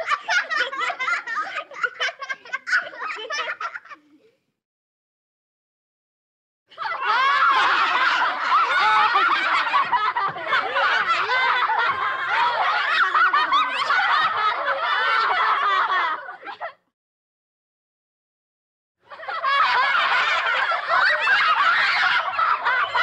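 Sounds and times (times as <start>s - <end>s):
children laughing: 0.0s - 4.4s, 6.7s - 16.9s, 19.1s - 23.0s.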